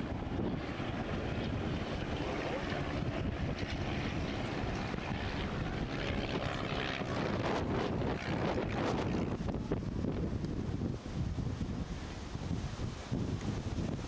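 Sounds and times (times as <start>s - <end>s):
propeller aircraft engine drone: 0.0s - 14.0s
wind buffeting microphone: 0.0s - 14.0s.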